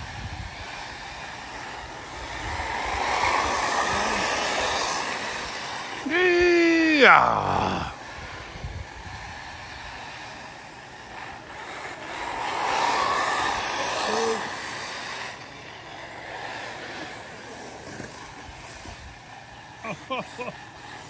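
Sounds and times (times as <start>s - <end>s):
rc buggies racing on dirt: 0.0s - 21.0s.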